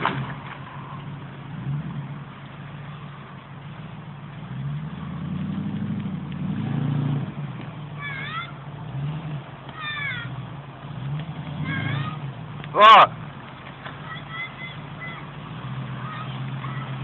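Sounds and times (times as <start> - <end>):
suv engine revving: 0.0 - 17.0.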